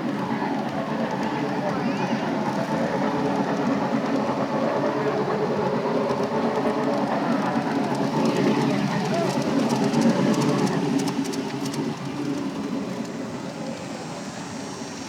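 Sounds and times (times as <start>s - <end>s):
model train running: 0.0s - 15.0s
train sound effects: 0.0s - 15.0s.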